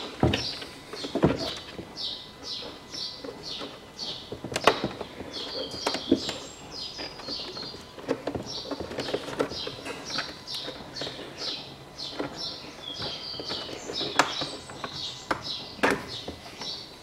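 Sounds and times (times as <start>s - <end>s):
bird chirping: 0.3s - 16.9s.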